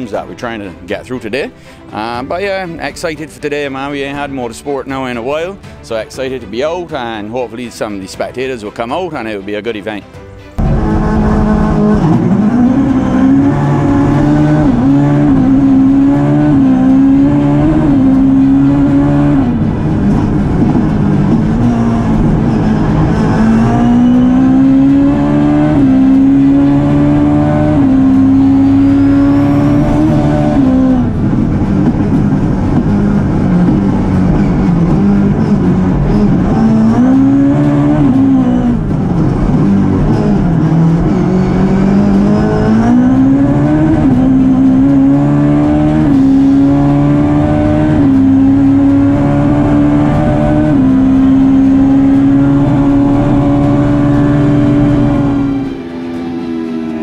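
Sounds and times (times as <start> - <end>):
car engine accelerating: 10.4 - 57.0.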